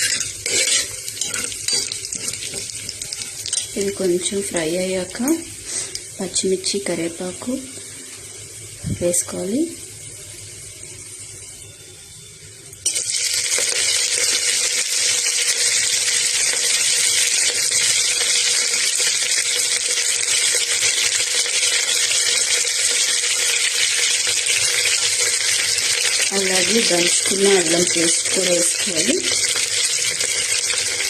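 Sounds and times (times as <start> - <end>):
chillies sizzling in hot oil: 0.0 - 31.0.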